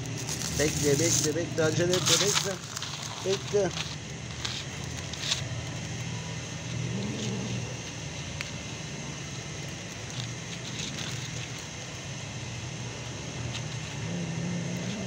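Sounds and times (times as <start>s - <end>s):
cats crunching dry food: 0.0s - 15.0s.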